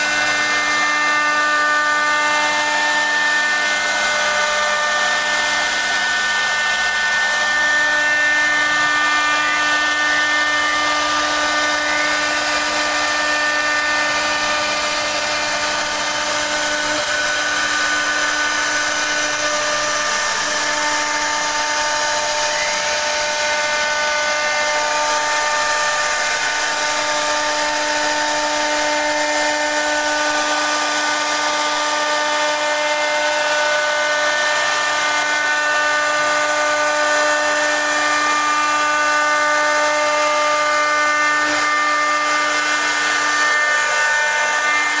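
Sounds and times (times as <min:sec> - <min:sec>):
router spindle whine: 0:00.0 - 0:45.0.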